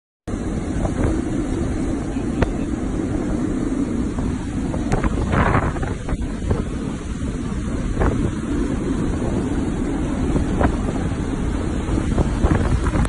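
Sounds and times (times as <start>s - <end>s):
wind and heavy rain roaring: 0.3s - 13.0s.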